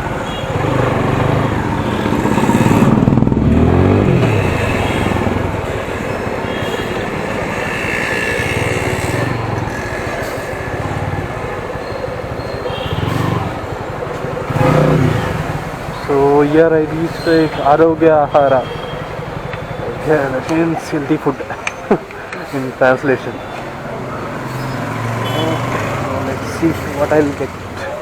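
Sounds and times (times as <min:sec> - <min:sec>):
motorcycle engine running: 0:00.0 - 0:22.4, 0:23.3 - 0:28.0
road noise: 0:00.0 - 0:28.0.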